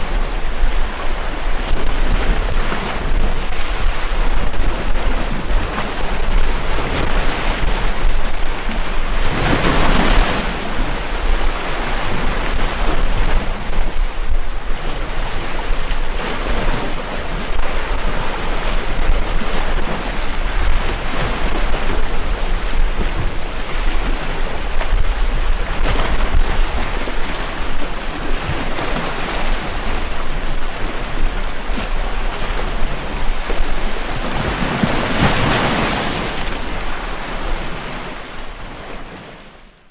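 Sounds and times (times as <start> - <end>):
waves washing against rocks: 0.0 - 39.5
wind on microphone: 0.0 - 39.8.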